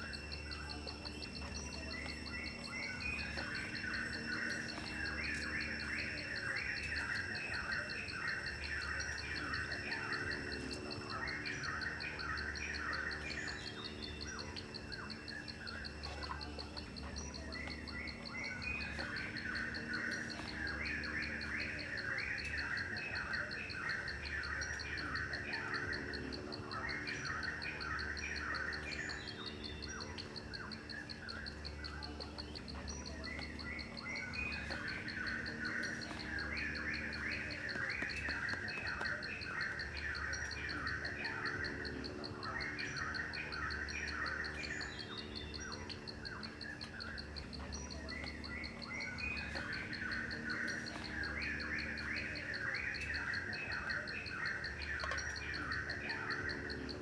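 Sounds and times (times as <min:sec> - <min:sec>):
birds chirping: 0:00.0 - 0:57.0
faint low hum: 0:00.0 - 0:57.0
insect trill: 0:00.0 - 0:57.0.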